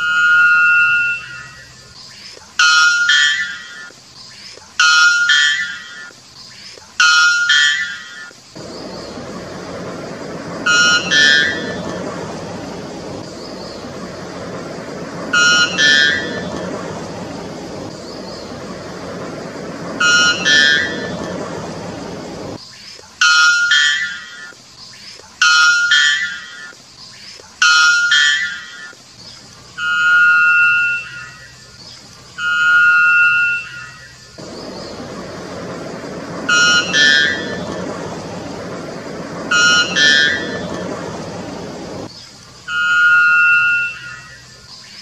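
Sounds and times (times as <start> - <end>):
bird calling: 0.0 - 45.0
steady hiss: 0.0 - 45.0.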